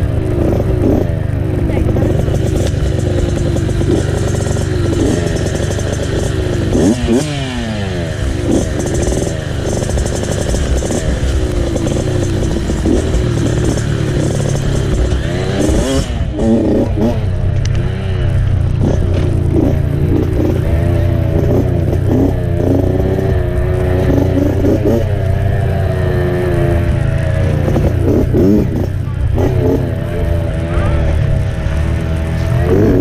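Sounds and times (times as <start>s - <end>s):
clatter over rough ground: 0.0s - 33.0s
dirt bike engine revving: 0.0s - 33.0s.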